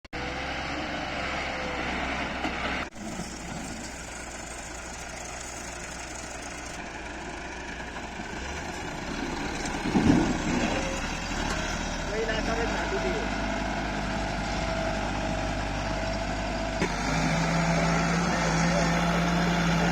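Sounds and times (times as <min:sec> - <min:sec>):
tractor diesel engine running: 0:00.2 - 0:19.9.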